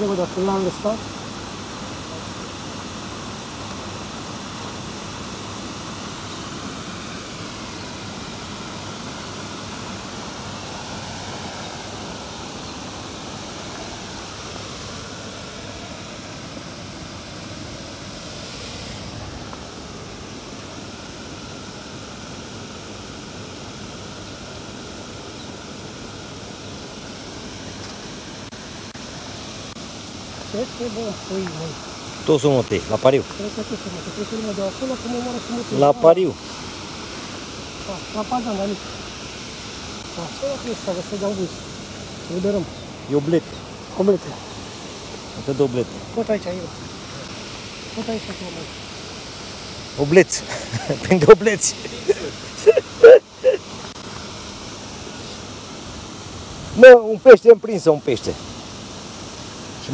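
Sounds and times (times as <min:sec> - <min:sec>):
steady rushing outdoor noise: 0:00.0 - 0:59.9.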